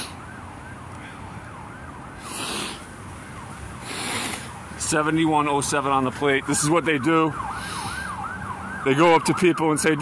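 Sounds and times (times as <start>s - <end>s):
siren yelping: 0.0s - 10.0s.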